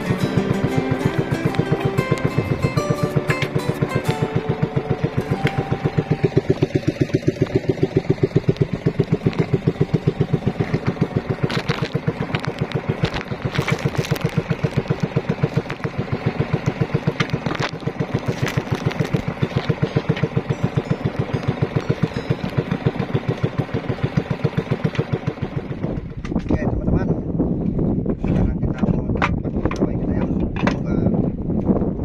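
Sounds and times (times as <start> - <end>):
boat engine pulsing: 0.0 - 30.6.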